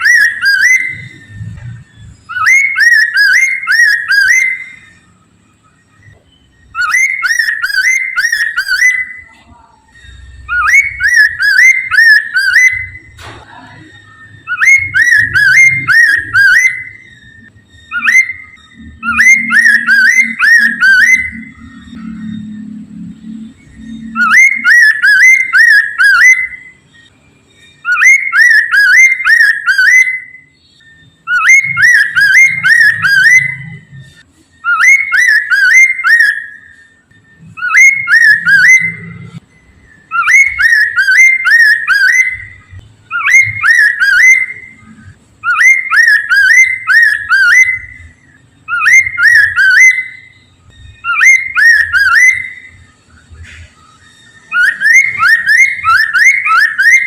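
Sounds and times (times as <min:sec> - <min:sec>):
bird whistled song: 0:00.0 - 0:57.0.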